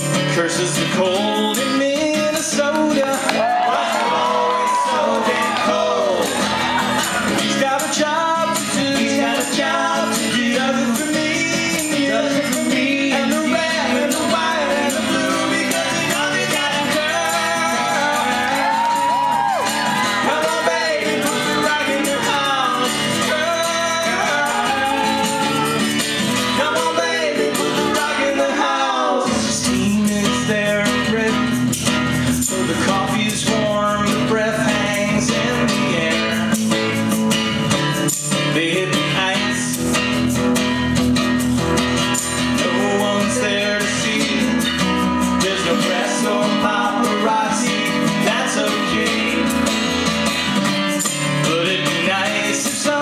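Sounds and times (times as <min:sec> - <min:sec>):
men singing together: 0:00.0 - 0:31.6, 0:32.3 - 0:36.9, 0:42.4 - 0:50.5, 0:51.2 - 0:53.0
strummed acoustic guitar: 0:00.0 - 0:53.0.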